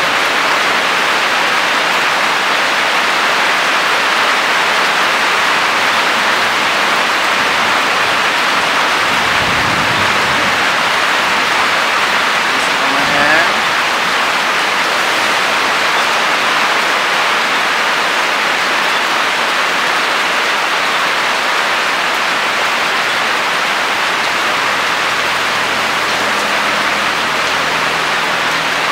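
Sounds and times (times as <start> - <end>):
heavy rain hissing: 0.0 - 28.9.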